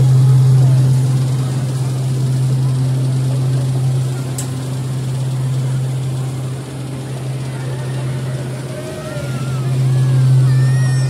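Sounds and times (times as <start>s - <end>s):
ride machinery humming: 0.0s - 11.0s.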